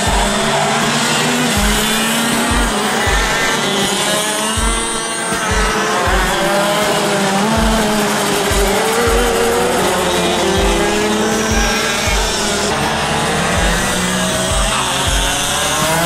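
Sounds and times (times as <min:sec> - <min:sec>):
kart engine running: 0:00.0 - 0:16.0
music with steady drum beat: 0:00.0 - 0:16.0.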